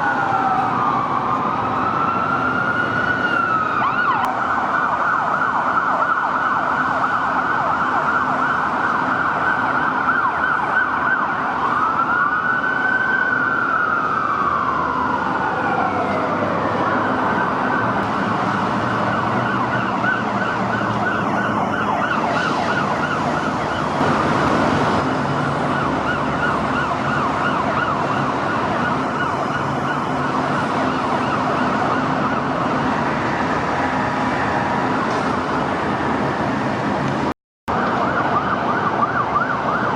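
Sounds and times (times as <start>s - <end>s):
police siren yelp: 0.0s - 35.0s, 37.7s - 39.9s
police siren wail: 0.0s - 39.9s.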